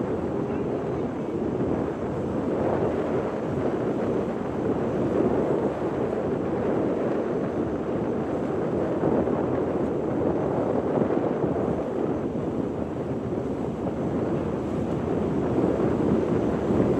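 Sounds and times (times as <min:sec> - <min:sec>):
sea: 0:00.0 - 0:16.9
wind buffeting microphone: 0:00.0 - 0:16.9.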